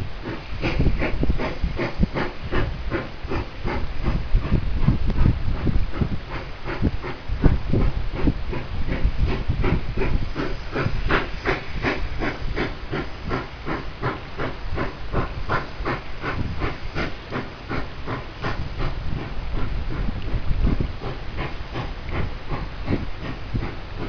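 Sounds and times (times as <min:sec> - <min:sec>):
low rumble of moving train: 0:00.0 - 0:24.0.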